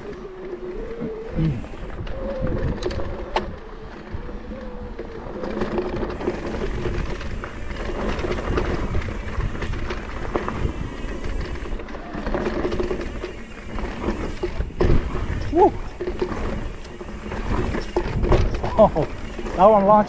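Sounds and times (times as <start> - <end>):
bike tyres on dirt trail: 0.0 - 20.0
bike knocks and rattles: 1.9 - 20.0.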